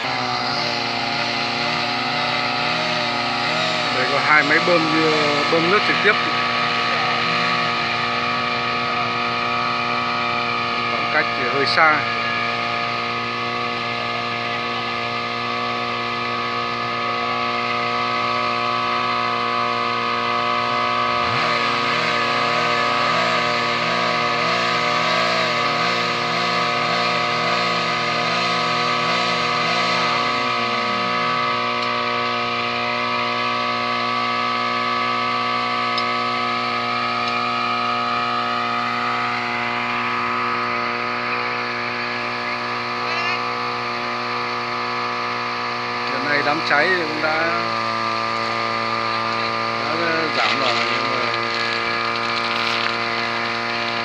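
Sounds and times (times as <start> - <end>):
droning hum of held tones: 0.0 - 54.0.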